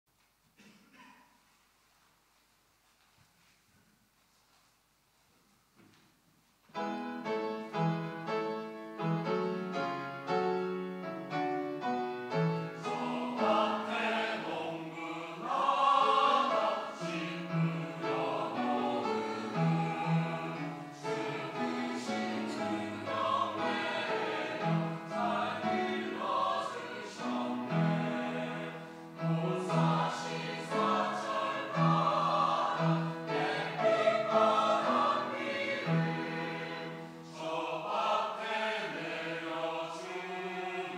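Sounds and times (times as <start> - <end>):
church choir singing: 6.8 - 40.9.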